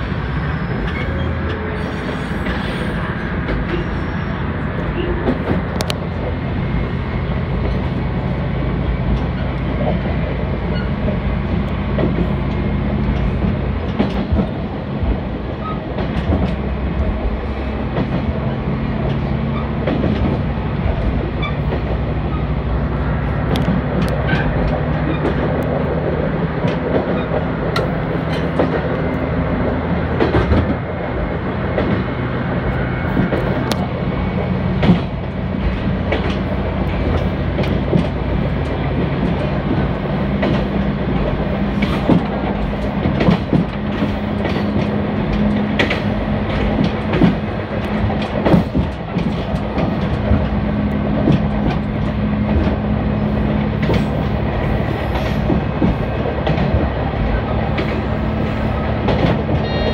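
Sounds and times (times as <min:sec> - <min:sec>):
diesel railcar engine running: 0:00.0 - 0:59.9
wheels clicking over rail joints: 0:04.8 - 0:22.6, 0:23.4 - 0:32.1, 0:33.1 - 0:59.9.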